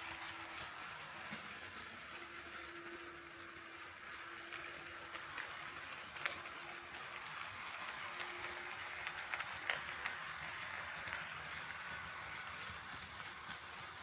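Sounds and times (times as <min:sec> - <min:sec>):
model train running hiss: 0:00.0 - 0:14.0
wheels clicking over rail joints: 0:00.0 - 0:14.0.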